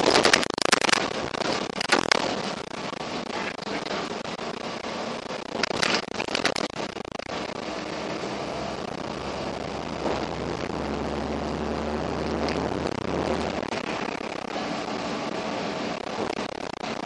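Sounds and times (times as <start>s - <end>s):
bus engine drone: 0.0s - 17.0s
loud crackling rattles: 0.0s - 17.0s
low hum: 0.0s - 17.0s.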